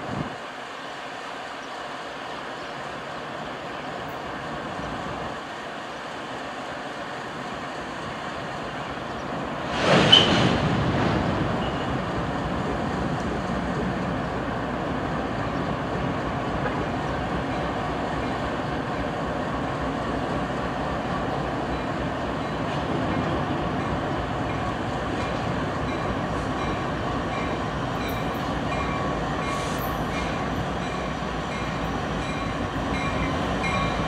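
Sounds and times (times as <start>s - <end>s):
diesel freight locomotive rumbling: 0.0s - 34.0s.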